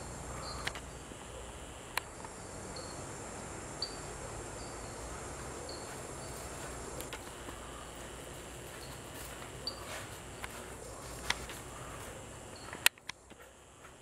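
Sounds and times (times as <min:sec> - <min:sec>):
high insect chorus: 0:00.0 - 0:14.0.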